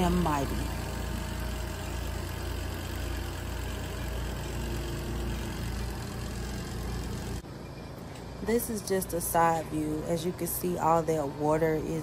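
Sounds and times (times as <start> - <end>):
spin dryer motor humming: 0.0 - 7.4, 8.4 - 12.0.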